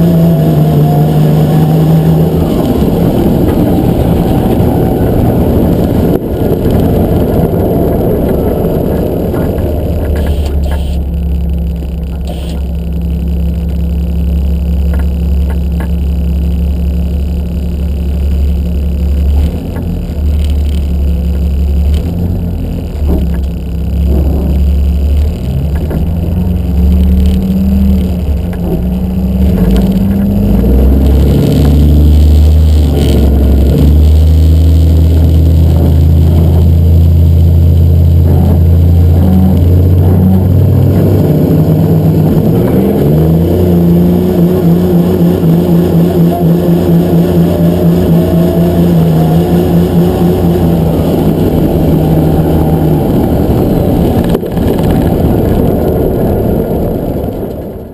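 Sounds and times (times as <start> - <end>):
diesel truck engine: 0.0 - 57.9
faint rising whine: 0.0 - 57.9.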